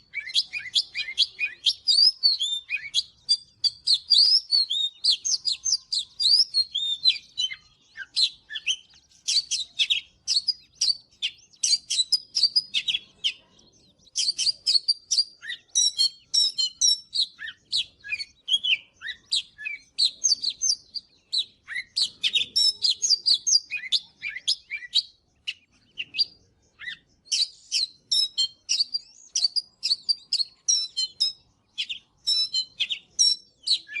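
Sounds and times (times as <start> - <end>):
magpie-robin singing: 0.0 - 34.0.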